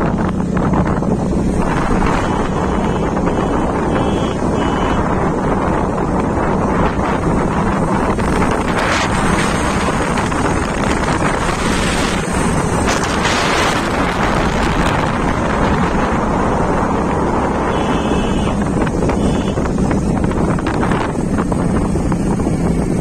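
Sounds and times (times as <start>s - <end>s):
motorbike engine drone: 0.0s - 23.0s
wind rushing over microphone: 0.0s - 23.0s.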